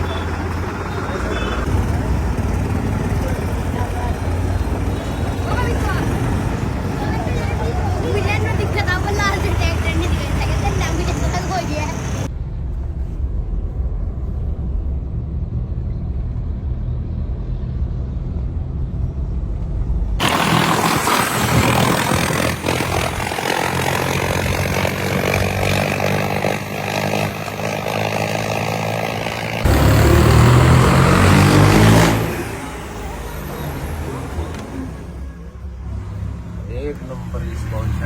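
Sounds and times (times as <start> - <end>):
tractor engine running: 0.0 - 14.9, 20.2 - 38.0.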